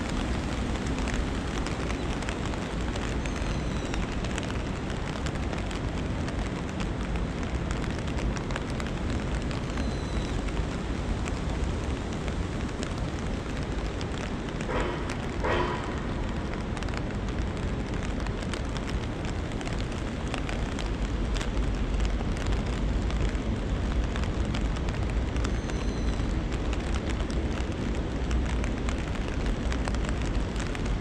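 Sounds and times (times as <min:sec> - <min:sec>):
raindrop ticks: 0:00.0 - 0:31.0
steady rain: 0:00.0 - 0:31.0.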